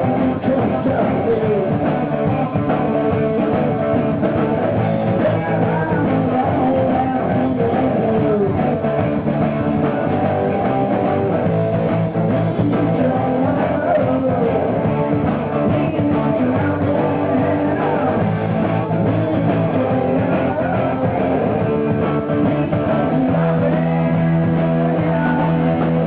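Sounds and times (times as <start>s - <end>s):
electric guitar melody bending pitch: 0.0s - 26.0s
live rock band: 0.0s - 26.0s.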